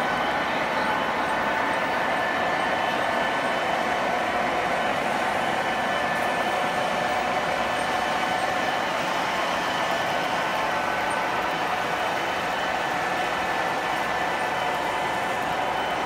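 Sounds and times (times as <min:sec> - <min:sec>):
model train wheels rumbling on track: 0:00.0 - 0:16.0.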